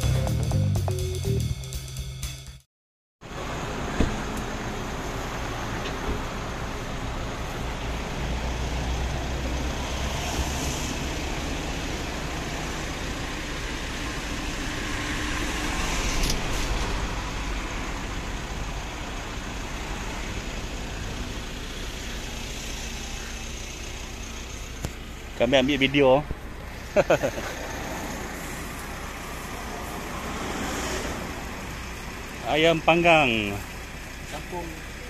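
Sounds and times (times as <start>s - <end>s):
highway traffic rumble: 3.2s - 35.0s.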